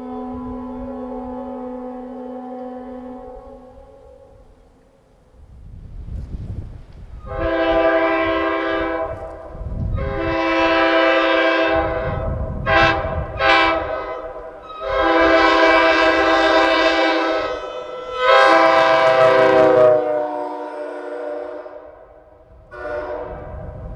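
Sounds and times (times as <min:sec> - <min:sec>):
locomotive air horn blasts: 0:00.0 - 0:04.6, 0:07.2 - 0:23.7.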